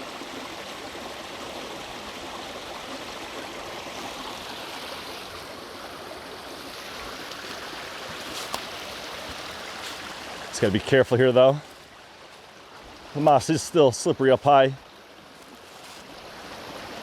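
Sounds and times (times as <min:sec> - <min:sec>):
water cascading down waterfall: 0:00.0 - 0:17.0.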